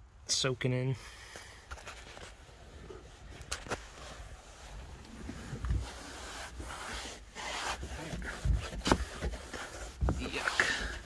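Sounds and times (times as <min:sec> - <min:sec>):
rubbing and scuffing surface: 0:01.7 - 0:11.0.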